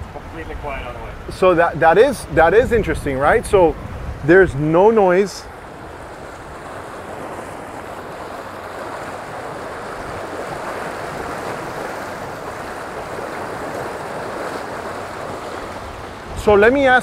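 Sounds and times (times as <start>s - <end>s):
churning water behind boat: 0.0s - 17.0s.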